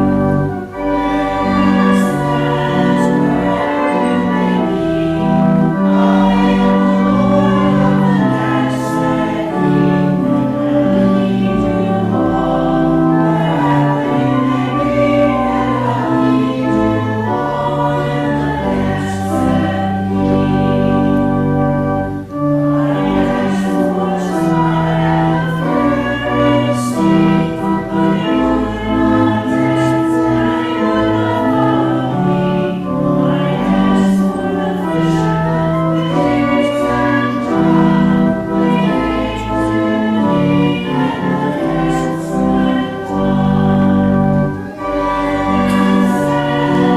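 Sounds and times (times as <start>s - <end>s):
congregation singing a hymn: 0.0s - 46.9s
organ accompaniment: 0.0s - 46.9s.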